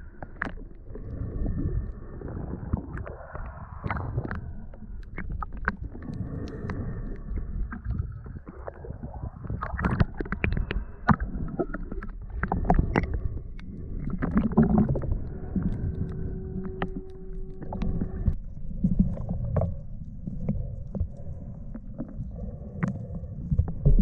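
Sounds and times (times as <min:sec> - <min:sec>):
underwater rush of water and bubbles: 0:00.0 - 0:24.0
sharp clicks and crackles: 0:02.7 - 0:24.0.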